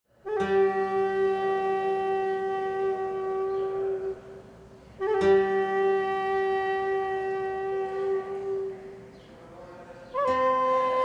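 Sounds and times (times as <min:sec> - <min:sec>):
wind instrument long notes: 0:00.1 - 0:09.0, 0:10.1 - 0:11.0.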